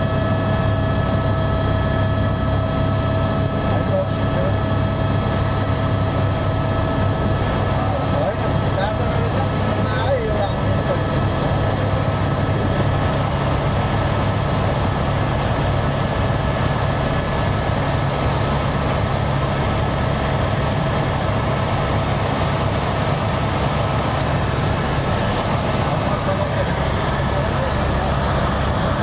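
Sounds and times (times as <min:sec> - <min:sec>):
constant whining tones: 0:00.0 - 0:29.0
helicopter cabin drone: 0:00.0 - 0:29.0.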